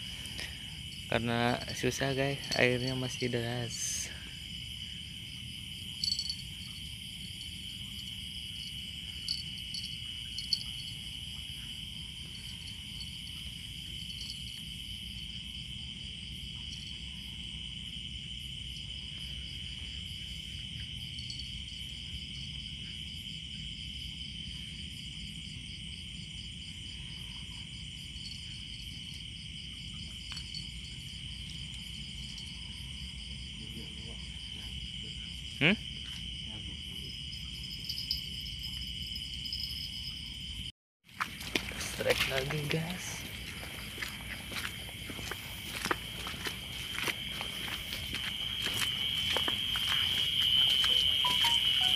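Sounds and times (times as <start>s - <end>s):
insect high trill: 0.0s - 51.9s
pulsing insect chirp: 0.0s - 51.9s.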